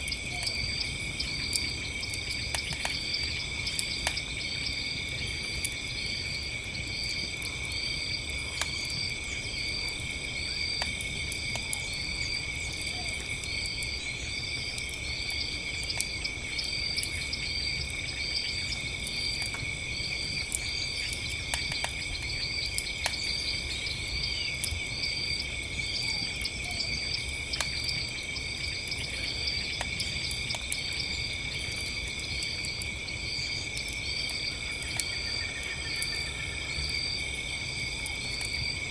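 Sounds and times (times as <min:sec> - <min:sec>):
campfire crackling and popping: 0:00.0 - 0:23.7, 0:24.4 - 0:38.6
cricket chirping in regular pulse: 0:00.0 - 0:38.9
crickets and insects trilling: 0:00.0 - 0:38.9.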